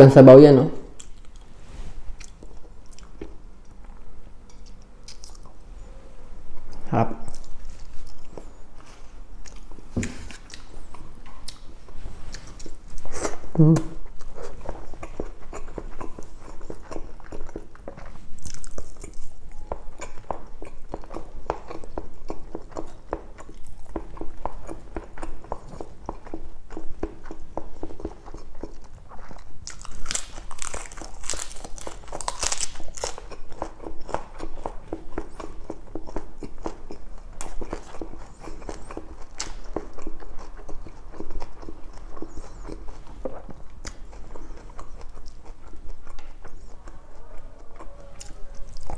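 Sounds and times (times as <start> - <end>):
person chewing and lip-smacking: 2.2 - 5.6, 12.3 - 48.9.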